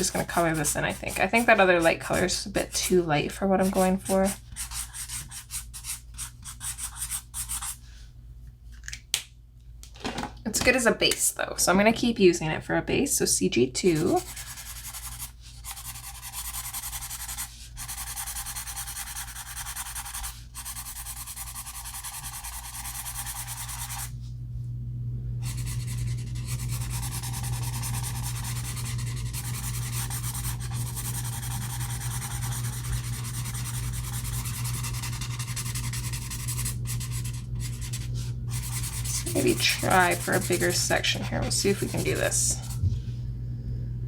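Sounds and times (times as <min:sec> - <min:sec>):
marker rubbing on paper: 0:00.0 - 0:07.8, 0:13.9 - 0:24.1, 0:25.4 - 0:42.8
low steady hum: 0:00.0 - 0:44.0.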